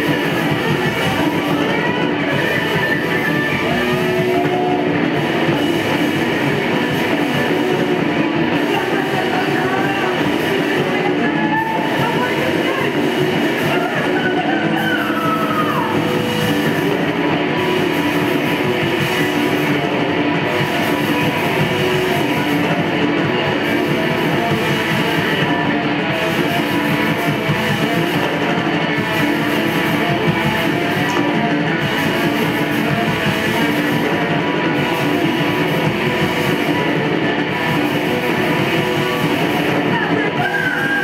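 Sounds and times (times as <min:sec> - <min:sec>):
bass guitar: 0:00.0 - 0:41.0
distorted electric guitars: 0:00.0 - 0:41.0
drum kit: 0:00.0 - 0:41.0.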